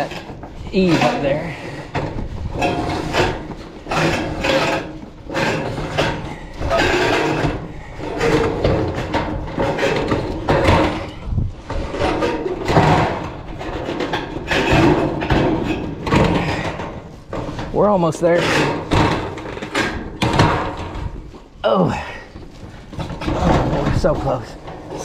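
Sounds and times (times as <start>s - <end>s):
sheet metal scraping on steel roof: 0.0s - 17.7s, 18.3s - 21.2s.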